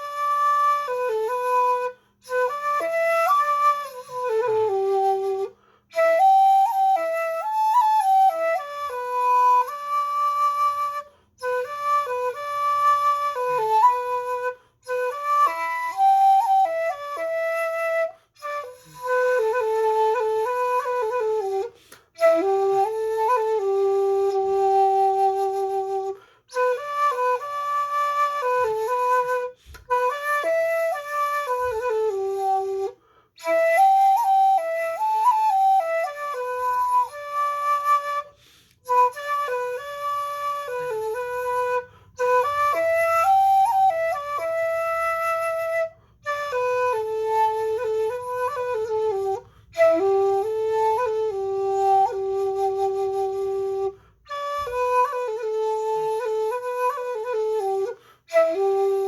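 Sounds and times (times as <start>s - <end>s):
bamboo flute solo melody: 0.0s - 59.0s.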